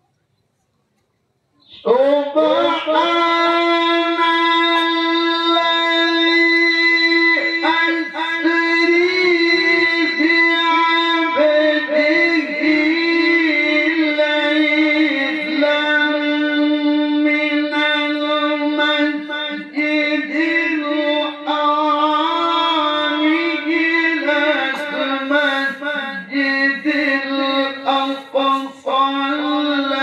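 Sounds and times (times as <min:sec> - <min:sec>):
man reciting melodically: 0:01.6 - 0:30.0.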